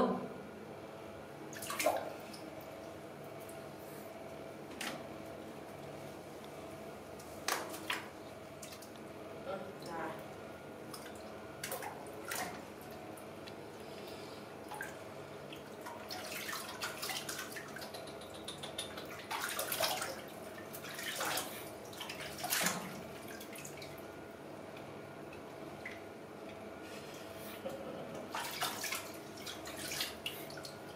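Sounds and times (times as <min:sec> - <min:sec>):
water sloshing and splashing in sink: 0:01.5 - 0:03.6, 0:07.1 - 0:13.9, 0:14.6 - 0:30.9.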